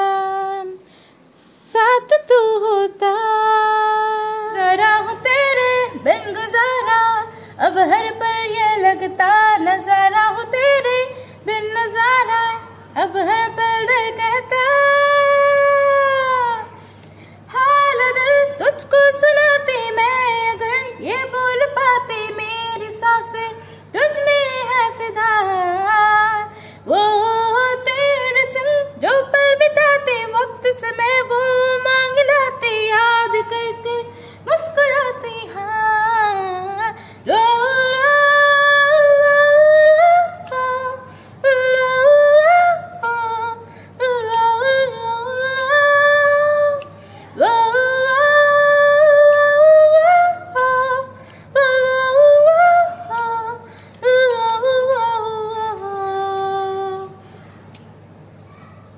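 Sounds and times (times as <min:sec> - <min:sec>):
woman singing: 0:00.0 - 0:57.3.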